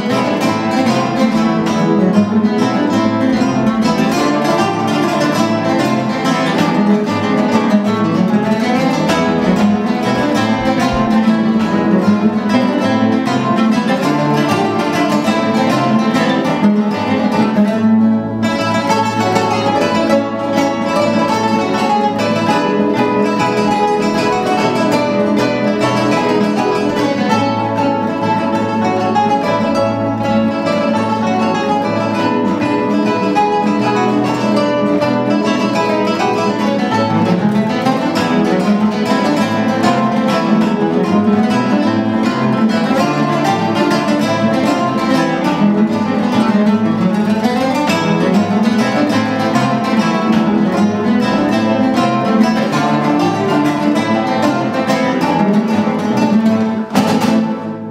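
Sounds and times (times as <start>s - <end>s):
classical guitars playing together: 0.0s - 57.9s.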